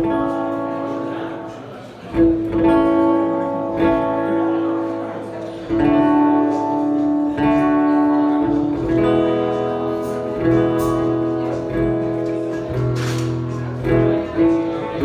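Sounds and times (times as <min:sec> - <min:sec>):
strummed chords: 0:00.0 - 0:15.0.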